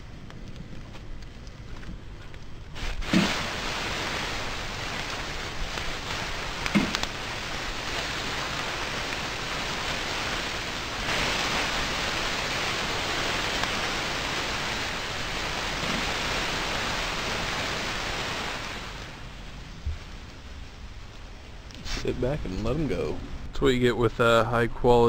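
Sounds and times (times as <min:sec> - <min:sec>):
burger patties sizzling on grill: 0:02.7 - 0:23.1.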